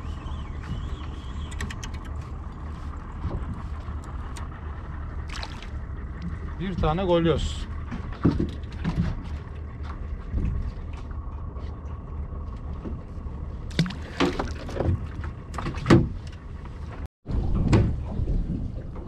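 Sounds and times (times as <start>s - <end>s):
boat engine idling: 0.0s - 17.1s.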